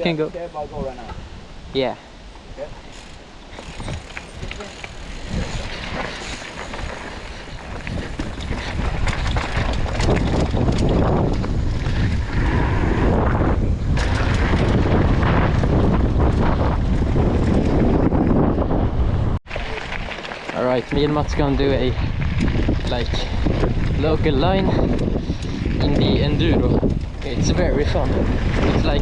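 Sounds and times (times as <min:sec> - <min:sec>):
wind buffeting microphone: 0:00.4 - 0:29.0.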